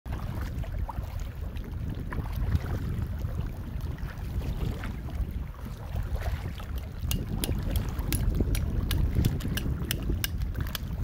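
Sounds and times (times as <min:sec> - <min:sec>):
feet wading through water: 0:00.1 - 0:11.0
wind buffeting microphone: 0:00.1 - 0:11.0.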